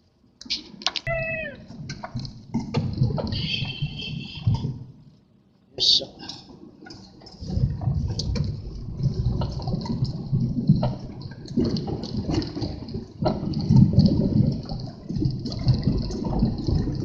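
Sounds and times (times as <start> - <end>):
wind buffeting microphone: 1.1 - 5.1, 6.5 - 17.0.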